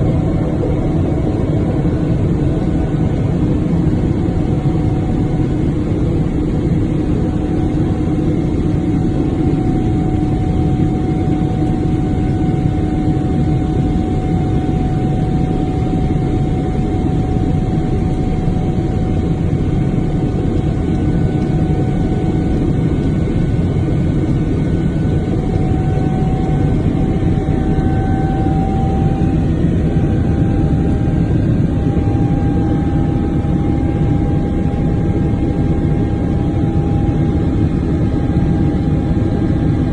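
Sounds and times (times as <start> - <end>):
aircraft engine rumble in cabin: 0.0 - 39.9.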